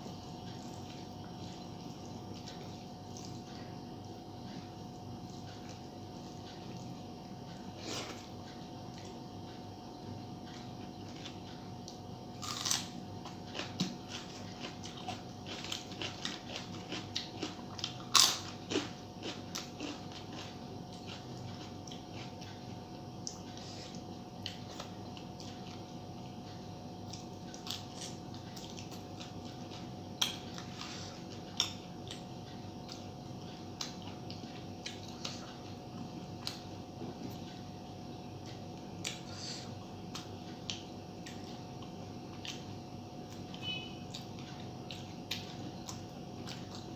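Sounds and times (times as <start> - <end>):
person chewing and crunching: 0.0 - 9.6, 10.4 - 37.6, 38.4 - 46.9
faint steady hum: 0.0 - 46.9.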